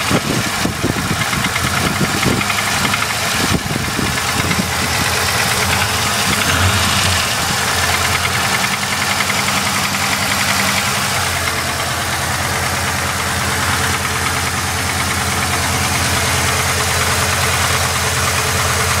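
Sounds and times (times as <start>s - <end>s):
car engine running: 0.0s - 19.0s
rhythmic engine knocking: 0.0s - 19.0s.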